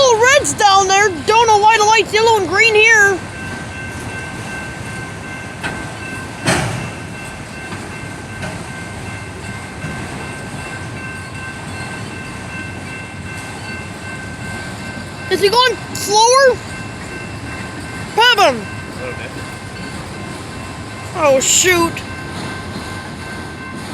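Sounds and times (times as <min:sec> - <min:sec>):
freight train cars rumbling: 0:00.0 - 0:23.9
train clank: 0:00.0 - 0:23.9.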